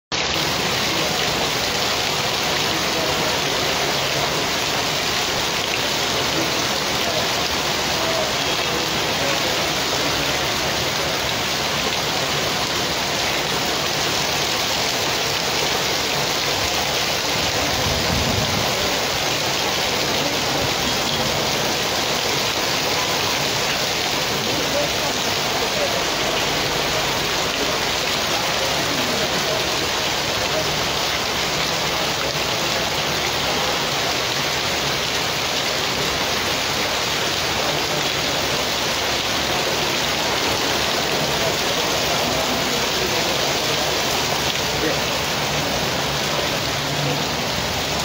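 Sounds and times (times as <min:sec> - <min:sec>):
heavy rain on street and cars: 0:00.1 - 0:48.0.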